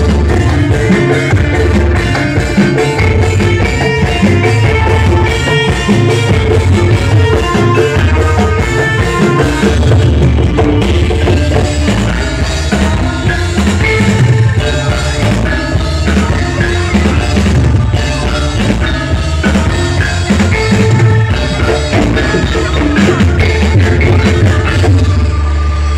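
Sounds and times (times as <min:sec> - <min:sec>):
loud music with drum beat and bass: 0:00.0 - 0:25.9.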